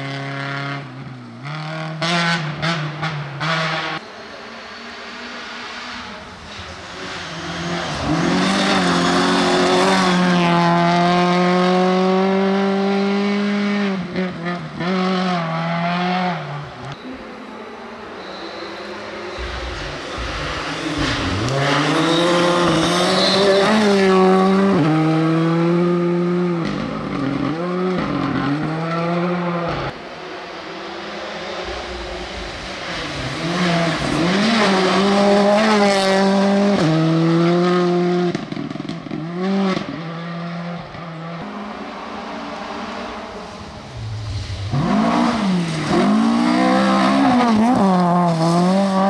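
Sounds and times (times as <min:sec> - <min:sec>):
rally car engines at full throttle: 0:00.0 - 0:49.0.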